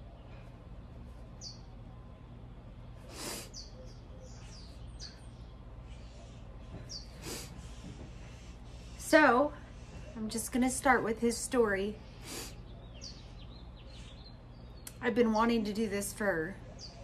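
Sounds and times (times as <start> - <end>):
birds chirping: 0.0 - 17.0
low steady hum: 0.0 - 17.0.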